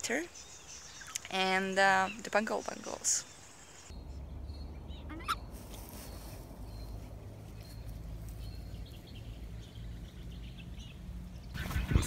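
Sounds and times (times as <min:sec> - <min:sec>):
birds chirping faintly: 0:00.0 - 0:11.6.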